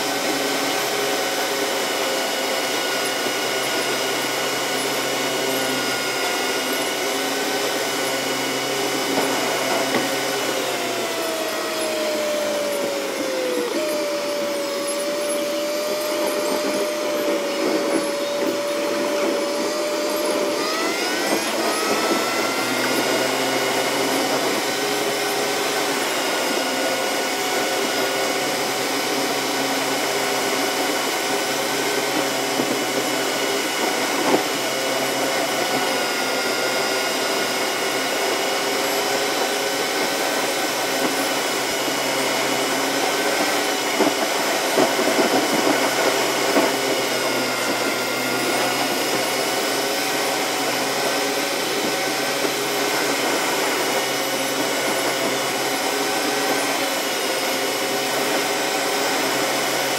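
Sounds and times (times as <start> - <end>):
engine and drivetrain whine: 0.0 - 59.9.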